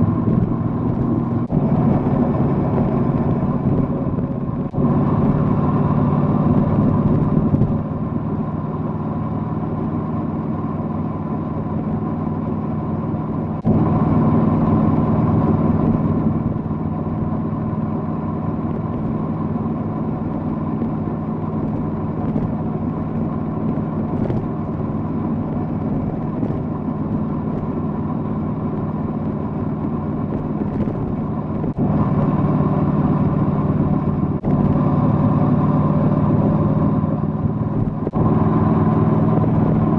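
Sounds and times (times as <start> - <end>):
motorcycle engine revving: 0.0 - 9.8, 13.0 - 39.9.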